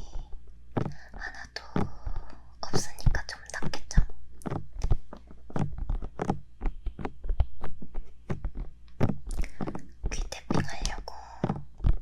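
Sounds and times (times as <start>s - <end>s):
fingertips tapping on microphone: 0.0s - 12.0s.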